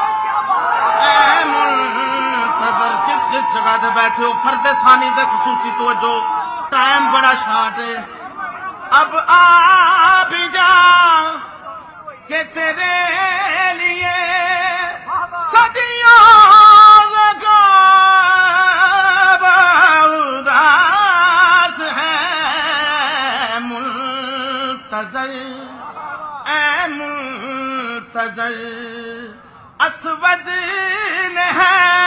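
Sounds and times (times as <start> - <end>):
man singing through a microphone: 1.0 - 32.0.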